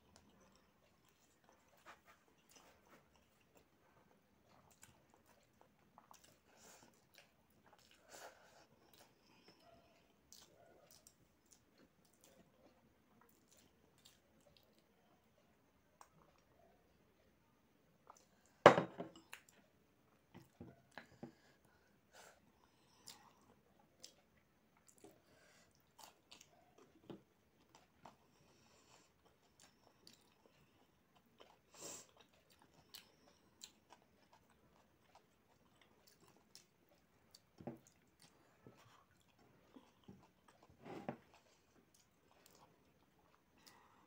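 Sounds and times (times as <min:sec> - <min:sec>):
person chewing: 0:00.1 - 0:15.1, 0:22.6 - 0:44.0.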